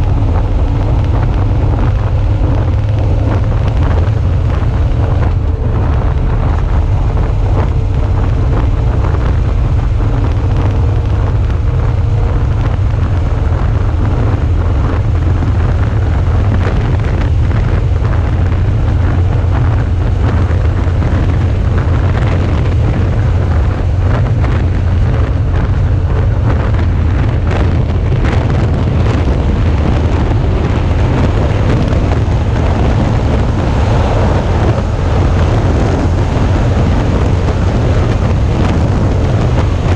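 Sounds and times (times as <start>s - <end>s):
motorcycle engine rumble: 0.0s - 39.9s
road noise: 0.0s - 39.9s
wind buffeting microphone: 0.0s - 39.9s.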